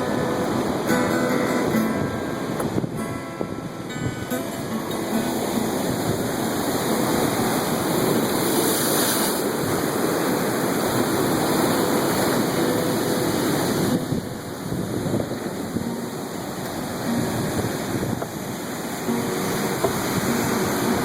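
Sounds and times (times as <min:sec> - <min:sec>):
ocean surf washing on shore: 0:00.0 - 0:21.0
wind on microphone: 0:00.0 - 0:21.0.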